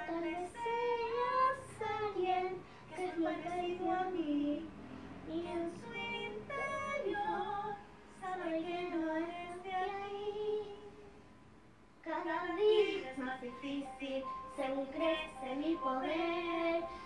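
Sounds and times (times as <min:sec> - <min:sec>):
young girl singing: 0:00.0 - 0:04.7, 0:05.3 - 0:10.9, 0:12.0 - 0:17.0.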